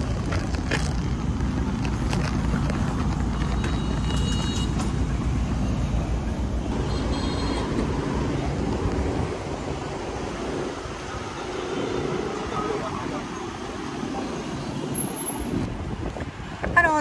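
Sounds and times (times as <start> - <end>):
bus passing: 0.0 - 16.8
electric scooters passing: 0.0 - 16.8
cars passing: 0.0 - 17.0
heavy low traffic rumble: 0.0 - 17.0.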